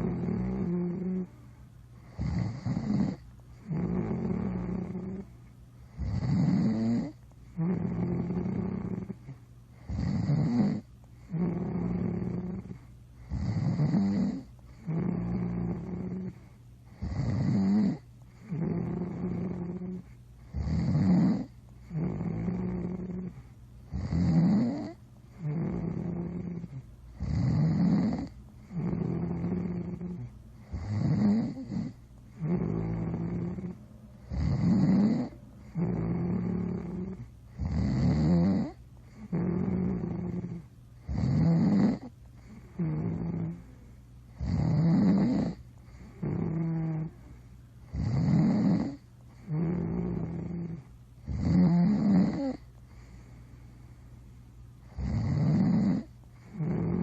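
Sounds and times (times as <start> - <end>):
snoring: 0.0 - 1.3, 2.0 - 5.3, 5.9 - 53.4, 54.8 - 57.0.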